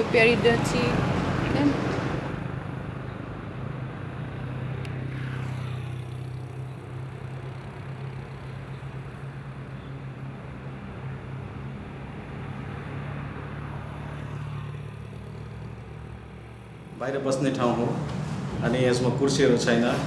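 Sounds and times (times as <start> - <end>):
low road traffic hum: 0.0 - 20.0
vehicle passing: 0.0 - 20.0.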